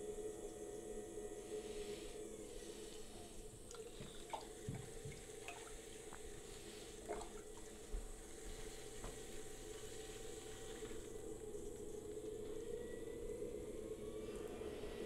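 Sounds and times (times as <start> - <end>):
potter's wheel hum: 0.0 - 15.0.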